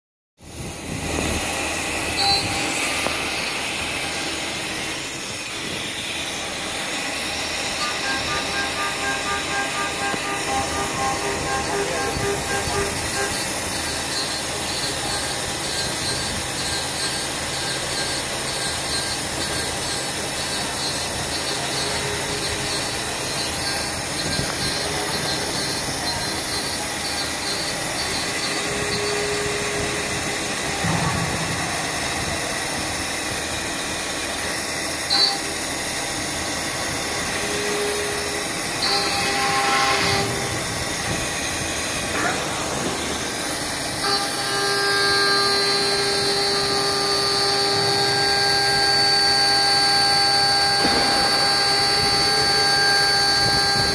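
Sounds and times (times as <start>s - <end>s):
milling machine cutting metal: 0.4s - 53.9s
faint high whine: 0.5s - 53.9s.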